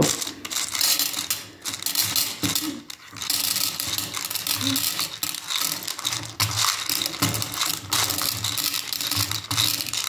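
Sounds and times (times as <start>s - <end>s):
pellets clinking into metal tin: 0.0s - 10.0s
pellets rattling on plastic tray: 0.0s - 10.0s.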